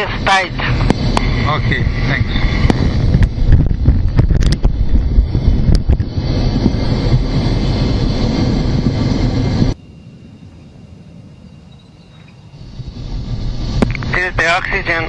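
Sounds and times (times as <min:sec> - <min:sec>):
distant steady noise: 0:00.0 - 0:15.0
jet engine noise: 0:00.0 - 0:15.0
wind rumble on microphone: 0:00.0 - 0:15.0.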